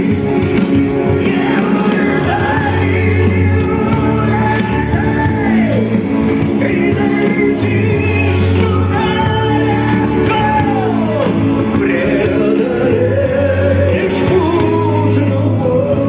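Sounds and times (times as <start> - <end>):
live rock music with singing: 0.0 - 16.0.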